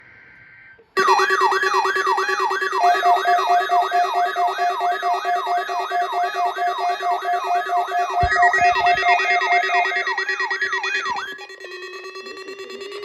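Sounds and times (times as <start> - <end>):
steady low alarm tone: 0.8 - 13.0
electronic siren alarm sweeping down: 0.9 - 13.0
pulsing alarm tone: 0.9 - 13.0.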